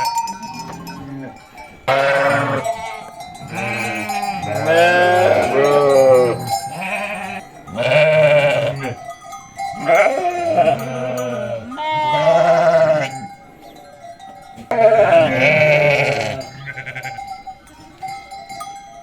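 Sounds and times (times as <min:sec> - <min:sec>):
sheep bleating: 0:00.0 - 0:09.1, 0:09.7 - 0:13.3, 0:14.6 - 0:17.3.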